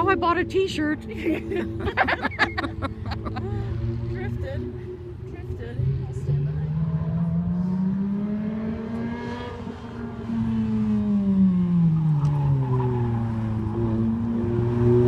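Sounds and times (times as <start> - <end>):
sports car engine revving: 2.8 - 15.0.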